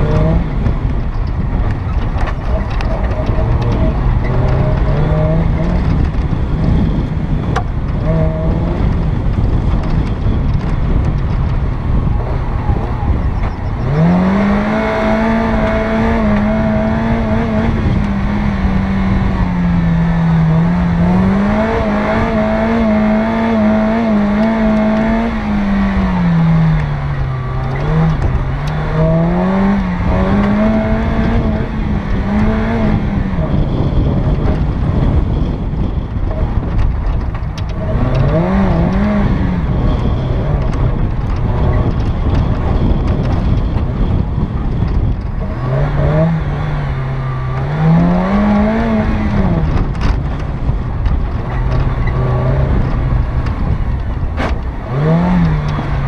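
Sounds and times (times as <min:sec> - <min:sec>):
off-road vehicle engine revving: 0:00.0 - 0:56.0
wind and chassis rumble: 0:00.0 - 0:56.0.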